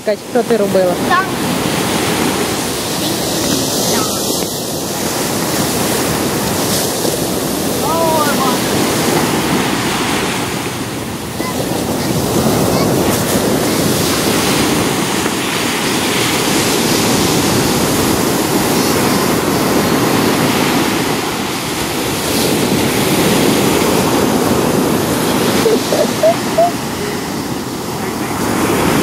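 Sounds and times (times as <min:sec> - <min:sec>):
ocean surf on beach: 0:00.0 - 0:29.0.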